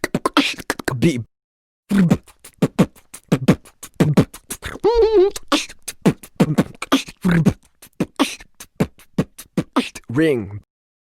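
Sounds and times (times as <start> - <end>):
beatboxing: 0.0 - 1.3, 1.9 - 10.2.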